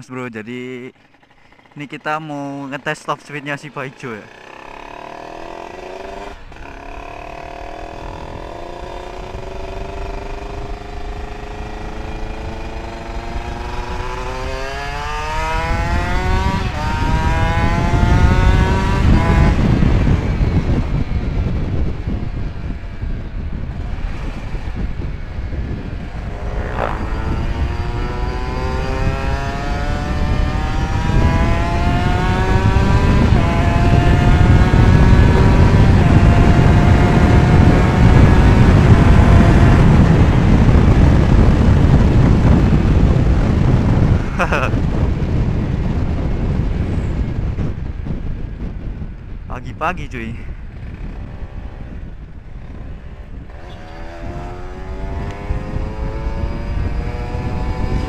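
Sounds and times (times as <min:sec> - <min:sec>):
motorcycle engine accelerating: 0:00.3 - 0:58.0
wind noise on microphone: 0:05.0 - 0:58.0.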